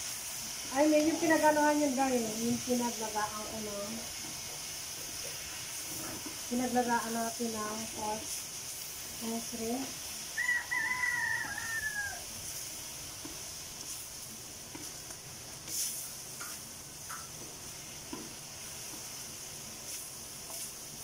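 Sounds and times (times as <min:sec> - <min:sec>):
vegetables sizzling in a wok: 0:00.0 - 0:21.0
spatula scraping a wok: 0:00.1 - 0:21.0.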